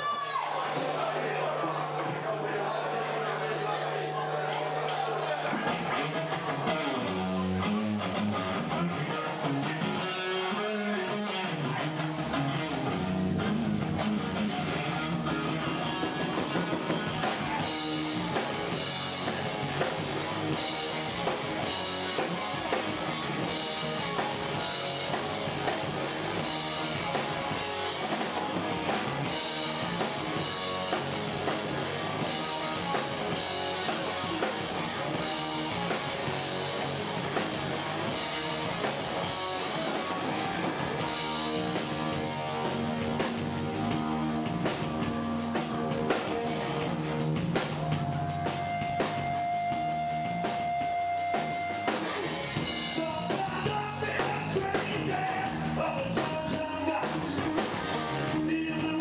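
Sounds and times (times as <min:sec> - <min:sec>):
live rock band playing: 0:04.6 - 0:59.0.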